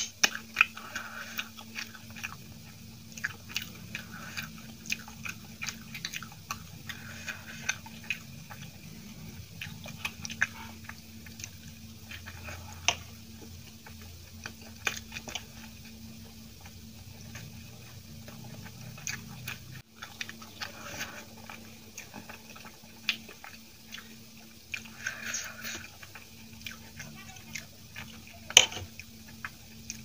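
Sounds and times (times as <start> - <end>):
close-up wet chewing: 0.0 - 30.0
faint low hum: 0.0 - 30.0.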